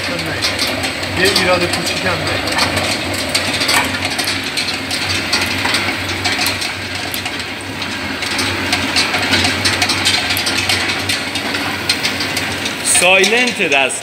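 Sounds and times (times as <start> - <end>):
machine drum clicking and rattling: 0.0 - 14.0
pitting machine humming: 0.0 - 14.0.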